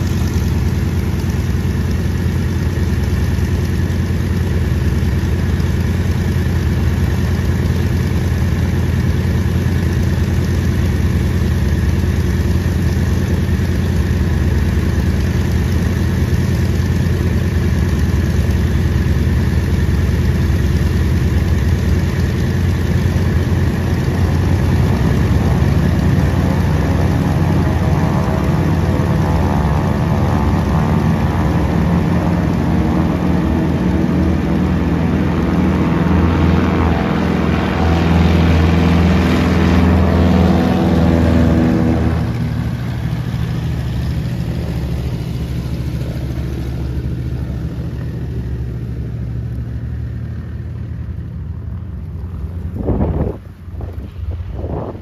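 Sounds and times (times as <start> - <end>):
propeller aircraft engines revving: 0.0 - 55.0.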